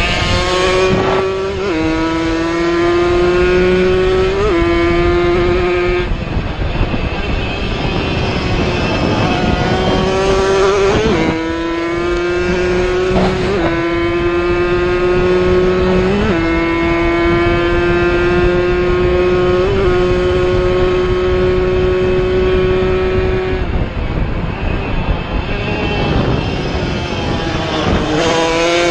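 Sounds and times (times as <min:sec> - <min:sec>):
motorcycle engine at high revs: 0:00.0 - 0:28.9.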